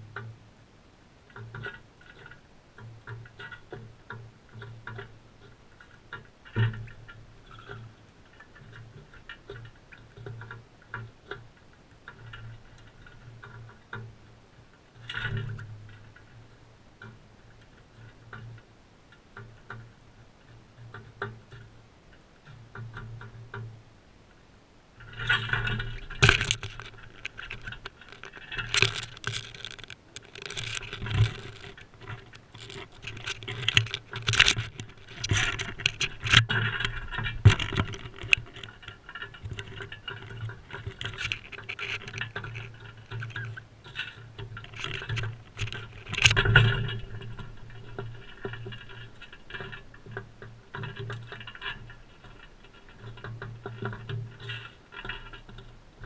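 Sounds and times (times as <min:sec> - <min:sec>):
parrots feeding on seed tray: 0:01.3 - 0:56.0.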